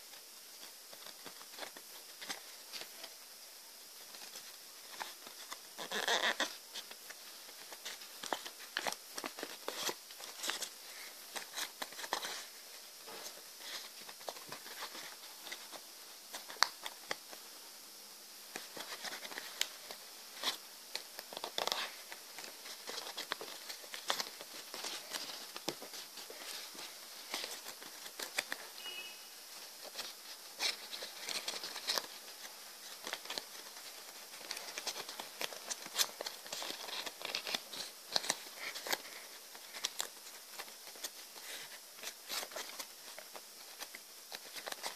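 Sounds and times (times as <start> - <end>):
paper rustling and crinkling: 0.0 - 3.2, 4.0 - 17.4, 18.5 - 44.9.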